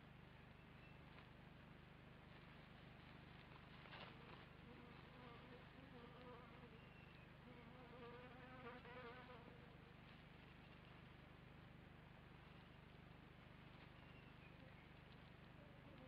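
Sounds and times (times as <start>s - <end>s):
faint buzzing hum: 0.0s - 16.0s.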